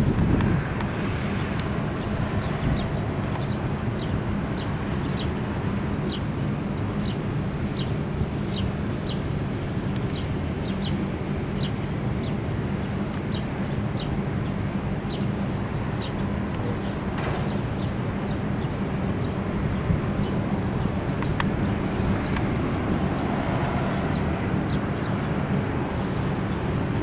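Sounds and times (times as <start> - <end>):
freight train rolling on rails: 0.0 - 27.0.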